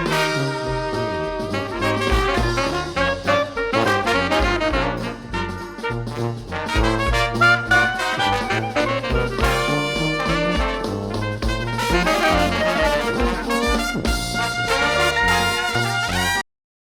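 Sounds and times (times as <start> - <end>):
upbeat brass music with bass beat: 0.0 - 16.4.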